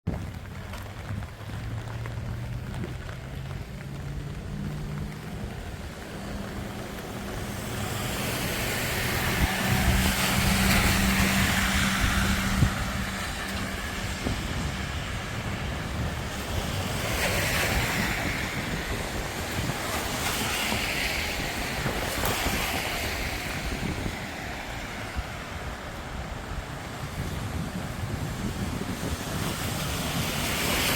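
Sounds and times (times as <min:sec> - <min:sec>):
steady rain: 0:00.1 - 0:30.9
tyres hissing on wet road: 0:00.2 - 0:30.9.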